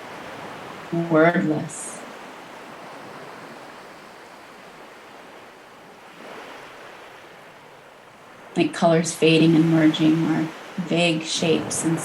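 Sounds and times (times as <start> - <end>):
ocean waves washing on shore: 0.0 - 12.0.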